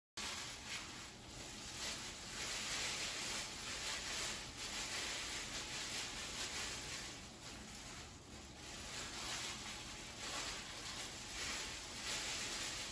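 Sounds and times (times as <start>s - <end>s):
plastic gloves rustling: 0.2s - 12.9s.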